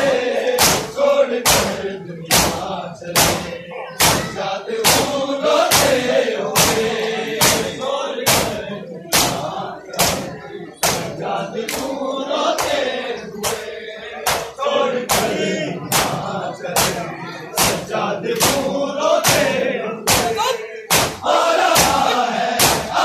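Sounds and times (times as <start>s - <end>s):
crowd chanting in unison: 0.0s - 23.0s
chest beating slaps: 0.5s - 6.0s, 6.6s - 11.9s, 13.4s - 23.0s.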